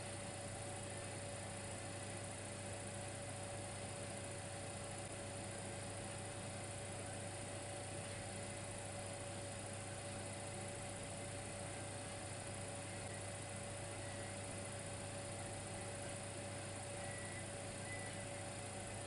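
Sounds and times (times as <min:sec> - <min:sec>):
electric fireplace humming: 0:00.0 - 0:19.0.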